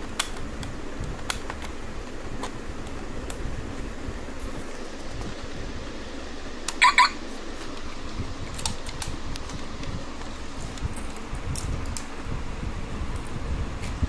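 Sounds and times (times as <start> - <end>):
mechanical whirring hum: 0.0 - 14.0.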